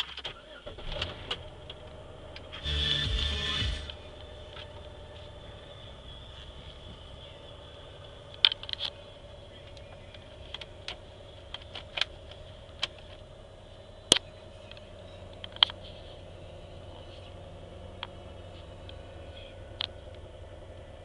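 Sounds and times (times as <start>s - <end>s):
faint steady hum: 1.4s - 21.0s.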